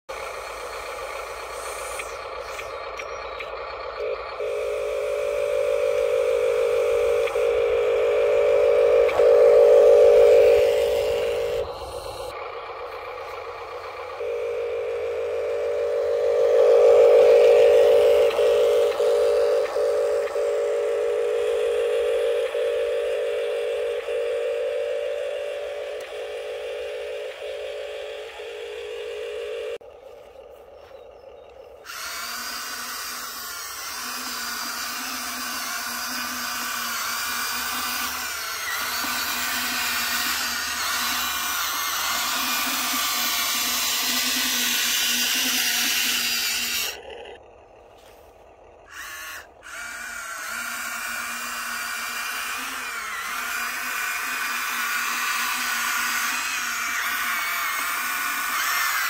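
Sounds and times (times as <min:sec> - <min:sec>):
electric motor whining: 0:00.1 - 0:59.0.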